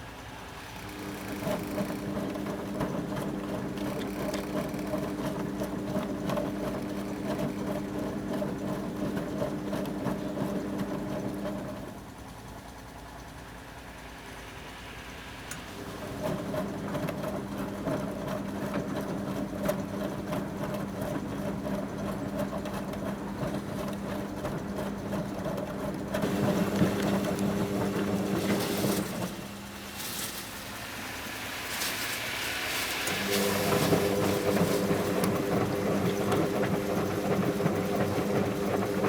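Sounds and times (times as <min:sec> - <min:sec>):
washing machine motor humming: 0:00.0 - 0:13.3, 0:15.5 - 0:39.0.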